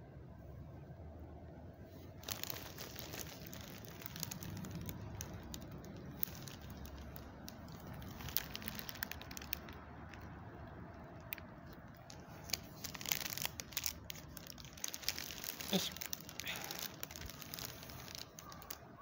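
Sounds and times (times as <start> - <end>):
rustling crackling handling noise: 1.9 - 19.0.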